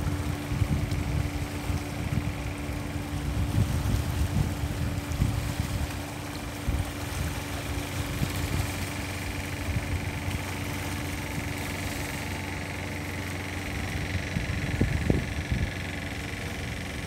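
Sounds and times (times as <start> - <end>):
distant boat engine drone: 0.0 - 17.0
wind rumbling on microphone: 0.0 - 17.0.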